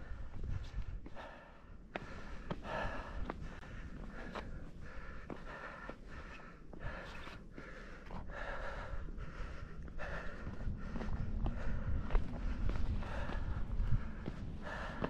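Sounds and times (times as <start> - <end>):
person breathing hard: 0.0 - 15.0
wind rumble on microphone: 0.0 - 15.0.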